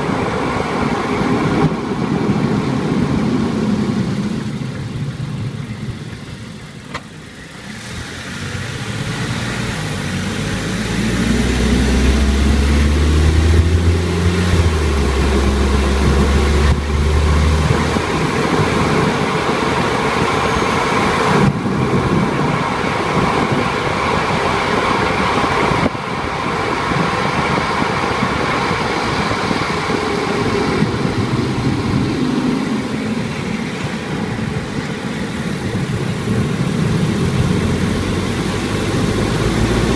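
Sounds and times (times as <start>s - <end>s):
car engine running: 0.0s - 39.9s
road and tyre noise: 0.0s - 39.9s.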